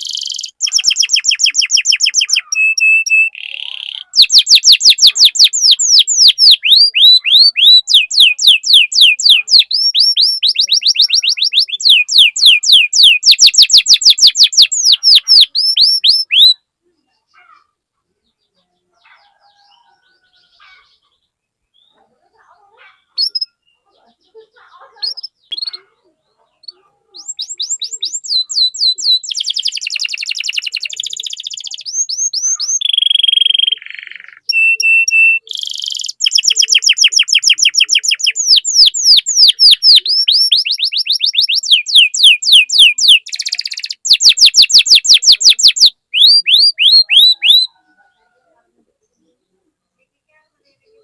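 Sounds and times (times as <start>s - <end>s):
canary singing trills: 0.0s - 51.0s.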